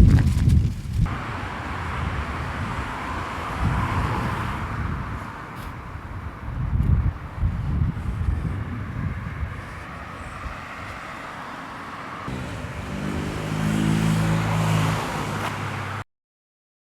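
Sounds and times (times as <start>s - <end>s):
wind rumble on microphone: 0.0s - 15.9s
street noise: 0.0s - 16.0s
vehicle engine hum: 0.0s - 16.0s.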